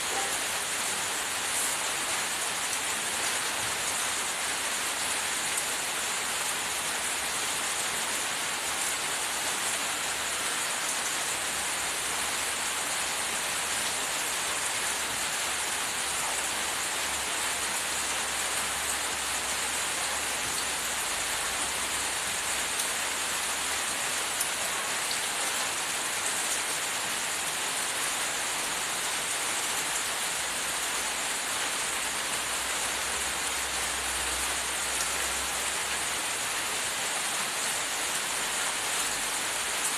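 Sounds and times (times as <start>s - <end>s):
steady rain-like hiss: 0.0s - 39.9s.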